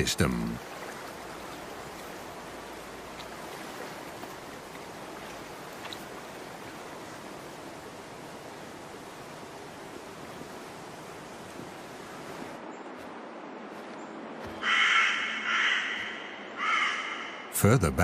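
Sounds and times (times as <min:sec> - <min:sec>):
stream water flowing: 0:00.0 - 0:14.6.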